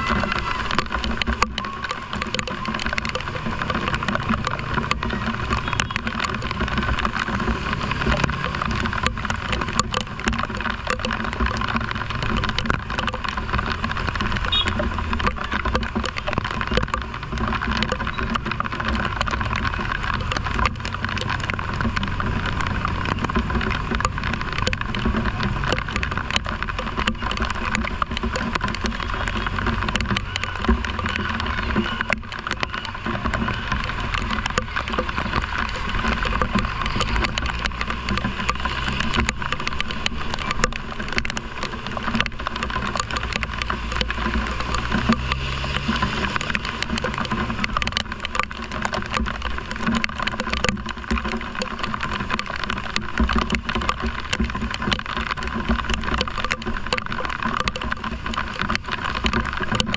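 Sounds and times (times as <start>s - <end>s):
raindrops tapping camera: 0.0s - 59.9s
wind and rain rushing: 0.0s - 59.9s.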